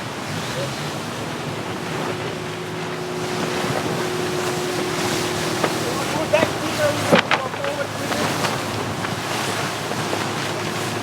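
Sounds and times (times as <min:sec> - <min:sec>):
water rushing along a hull: 0:00.0 - 0:11.0
wind buffeting microphone: 0:00.0 - 0:11.0
thin steady hum: 0:00.9 - 0:10.8.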